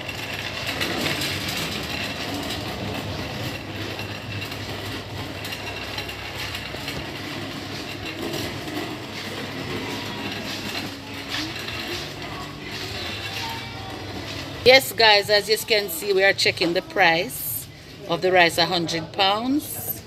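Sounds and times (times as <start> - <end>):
shopping cart rattling: 0.0 - 20.0.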